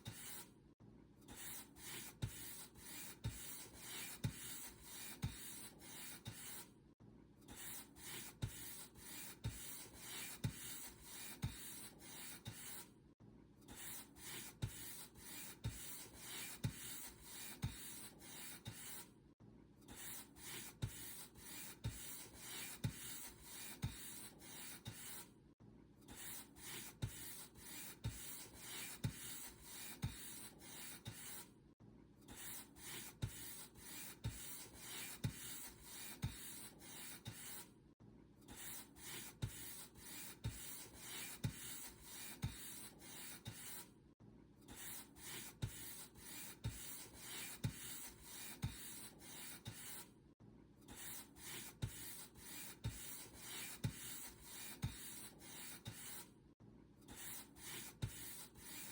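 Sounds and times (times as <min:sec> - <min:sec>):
paint brush scratching on surface: 0:00.0 - 0:00.5, 0:01.3 - 0:06.7, 0:07.5 - 0:12.9, 0:13.7 - 0:19.1, 0:19.9 - 0:25.3, 0:26.1 - 0:31.5, 0:32.3 - 0:37.7, 0:38.5 - 0:43.9, 0:44.7 - 0:50.1, 0:50.9 - 0:56.3, 0:57.1 - 0:58.9.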